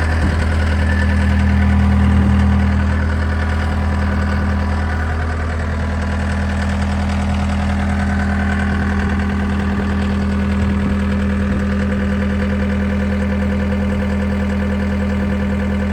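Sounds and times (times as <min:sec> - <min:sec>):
diesel engine running steadily: 0:00.0 - 0:15.9.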